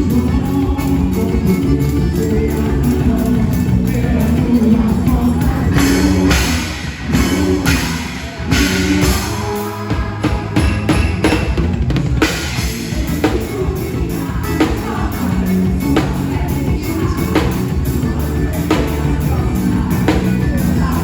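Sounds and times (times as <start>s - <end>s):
band music: 0.0s - 21.0s
drum kit beat: 0.0s - 21.0s.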